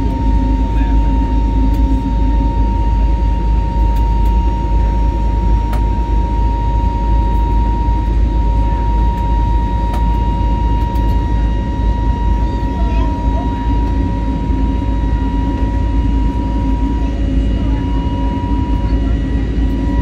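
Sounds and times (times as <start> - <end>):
airliner cabin engine rumble: 0.0 - 20.0
steady whine: 0.0 - 20.0.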